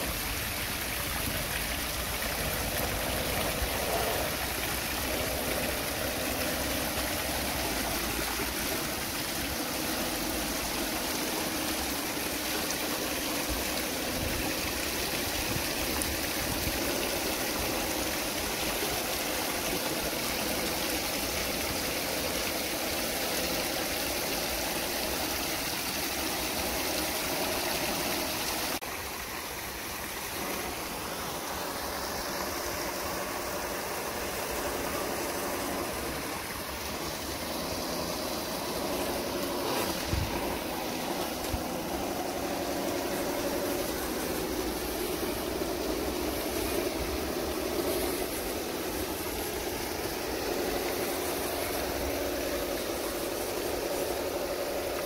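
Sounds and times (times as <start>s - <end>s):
water rushing over rocky waterfall: 0.0s - 55.0s.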